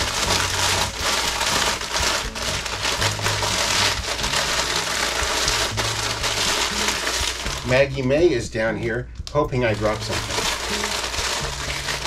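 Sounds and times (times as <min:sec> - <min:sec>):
chip bag crushed crackling: 0:00.0 - 0:08.3, 0:09.7 - 0:12.0.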